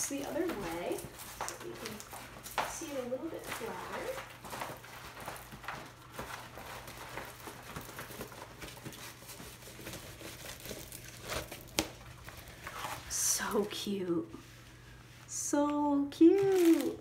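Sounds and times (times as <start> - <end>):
plastic wrap crinkling: 0.0 - 14.1, 16.0 - 17.0.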